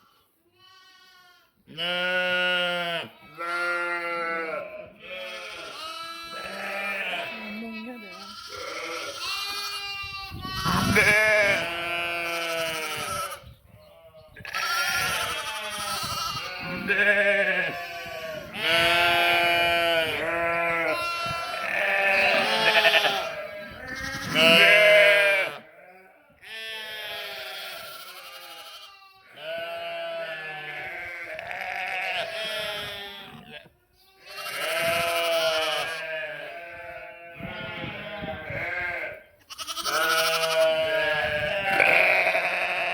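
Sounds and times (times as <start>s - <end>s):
sheep and lambs bleating: 0.0s - 42.9s.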